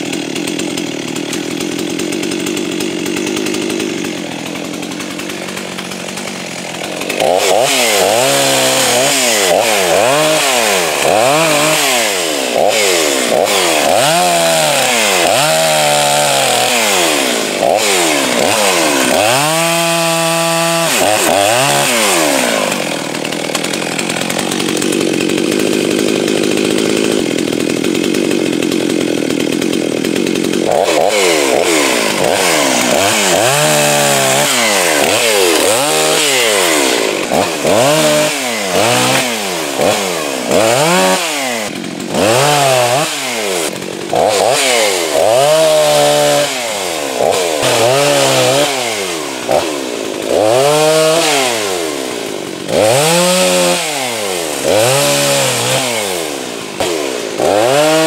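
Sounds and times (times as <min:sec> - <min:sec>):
chainsaw cutting wood: 0:00.0 - 0:58.0
chainsaw revving: 0:00.0 - 0:58.0.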